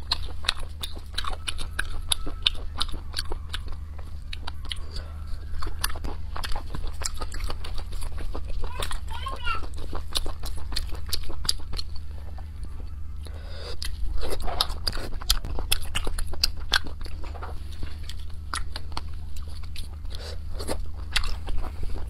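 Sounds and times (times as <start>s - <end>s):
wet mouth sounds: 0.0s - 12.5s, 13.2s - 22.0s
biting and chewing shellfish: 0.0s - 22.0s
steady low hum: 0.0s - 22.0s.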